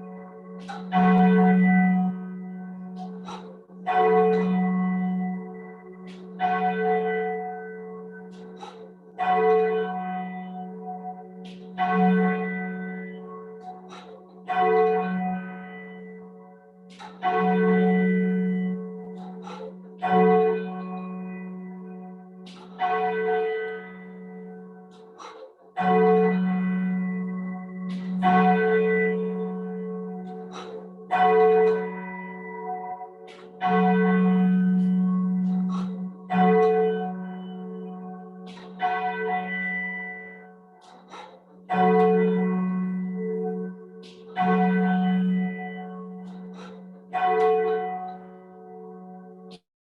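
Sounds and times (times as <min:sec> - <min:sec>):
church bell tolling: 0:00.0 - 0:49.6.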